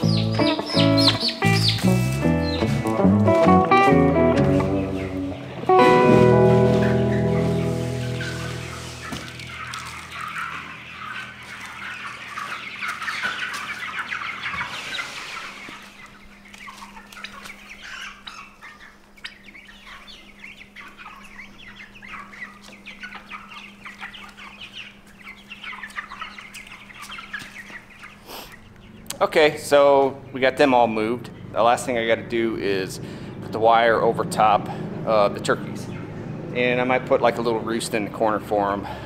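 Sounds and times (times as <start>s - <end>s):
chicks chirping and peeping: 0.0s - 39.0s.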